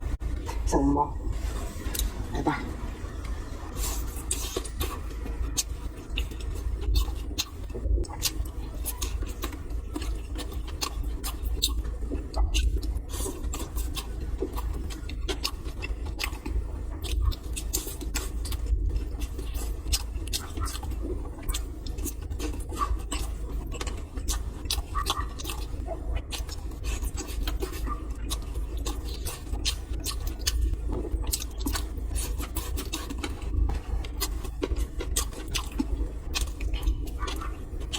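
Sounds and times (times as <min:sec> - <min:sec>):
steady low rumble: 0:00.0 - 0:37.9
person chewing food: 0:01.4 - 0:37.9.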